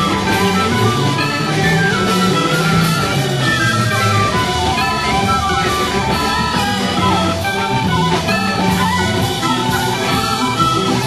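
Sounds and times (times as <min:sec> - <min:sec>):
instrumental progressive rock: 0:00.0 - 0:11.0.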